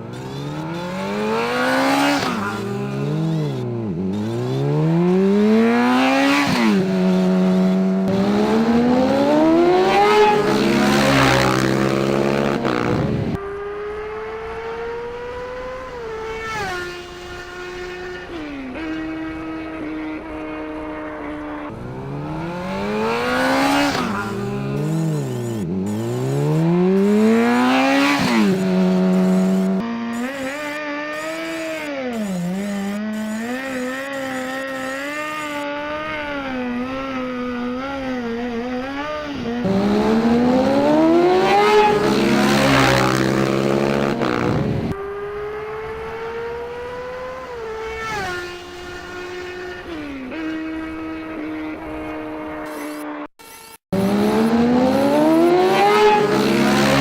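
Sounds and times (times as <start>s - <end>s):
car engine revving: 0.0s - 53.2s, 53.9s - 57.0s.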